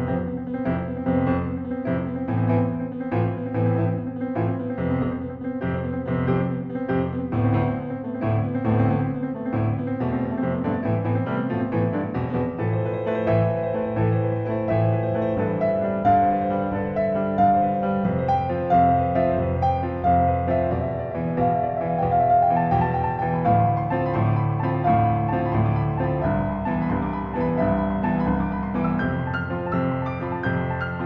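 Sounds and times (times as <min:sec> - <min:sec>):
solo piano piece: 0:00.0 - 0:31.0.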